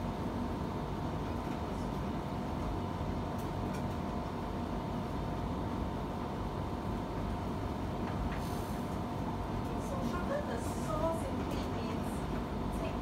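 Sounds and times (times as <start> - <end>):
room hum and hiss: 0.0 - 13.0.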